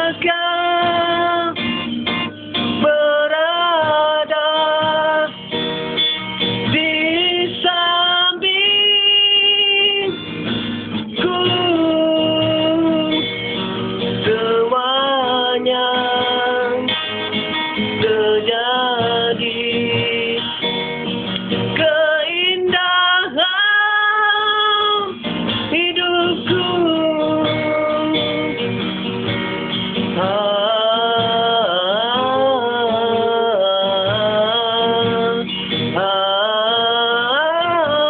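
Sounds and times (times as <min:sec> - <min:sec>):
guitar strumming chords: 0:00.0 - 0:38.0.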